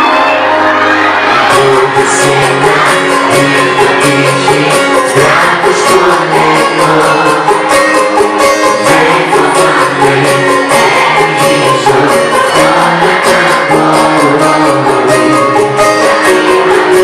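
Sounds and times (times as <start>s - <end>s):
band backing with steady beat: 0.0s - 17.0s
man singing pop song: 1.4s - 17.0s.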